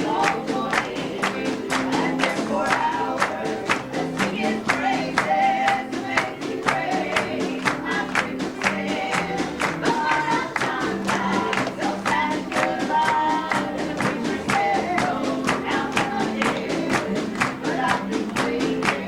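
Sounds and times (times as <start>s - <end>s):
sharp beat strokes: 0.0s - 19.0s
voices singing gospel song: 0.0s - 19.0s.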